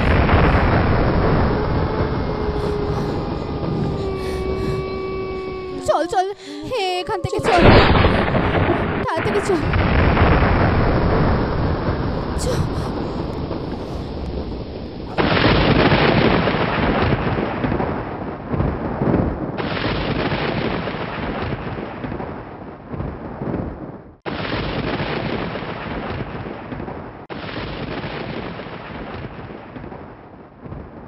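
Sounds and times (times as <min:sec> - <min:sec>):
thunderclaps: 0:00.0 - 0:31.0.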